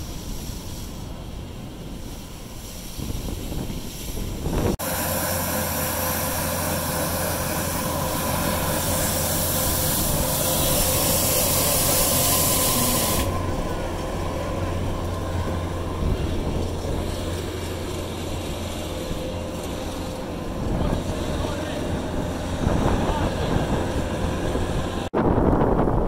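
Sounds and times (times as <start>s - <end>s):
mechanical drone with hiss: 0.0s - 25.1s
street noise: 0.0s - 26.0s.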